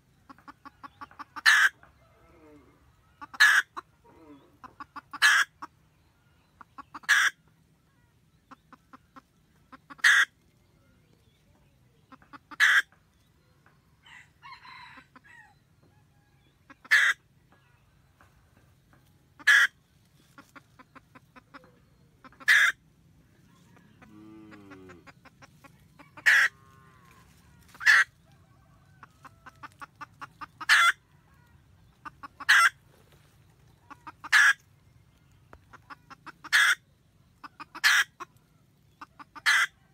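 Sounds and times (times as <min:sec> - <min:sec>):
hen clucking and cackling: 0:00.0 - 0:39.9.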